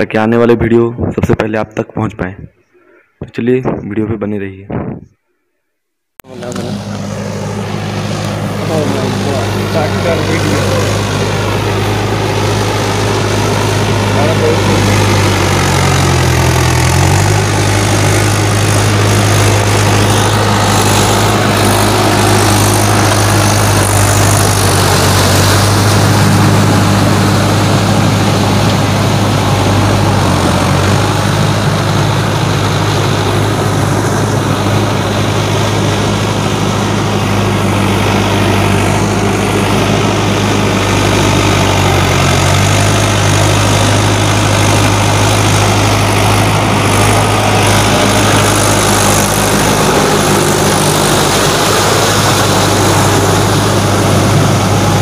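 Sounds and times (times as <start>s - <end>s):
tractor diesel engine running: 6.2s - 55.0s.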